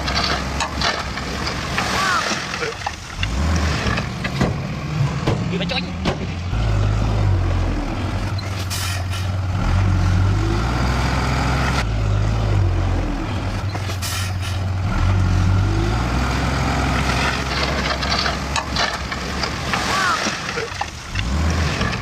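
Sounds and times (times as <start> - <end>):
heavy diesel engine working: 0.0 - 22.0.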